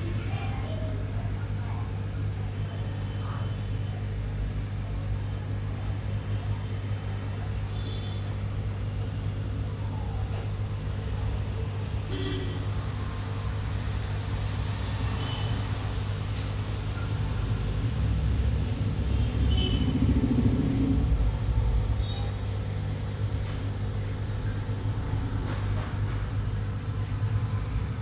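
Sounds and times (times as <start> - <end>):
aquarium pump humming: 0.0 - 28.0.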